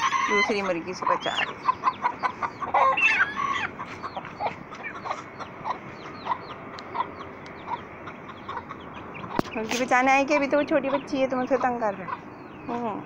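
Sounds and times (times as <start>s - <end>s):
chickens squawking and clucking: 0.0s - 13.0s.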